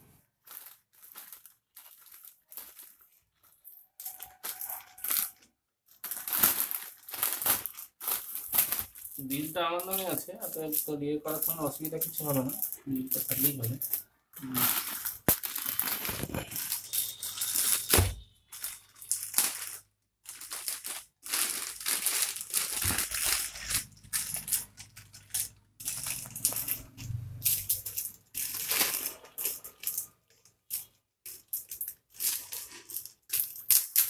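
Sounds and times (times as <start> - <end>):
plastic mailer crinkling and tearing: 0.3 - 34.0.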